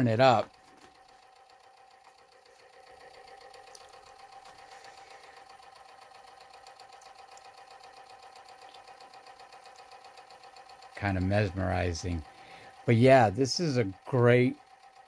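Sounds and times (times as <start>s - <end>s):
electric motor humming and pulsing: 0.0s - 15.0s.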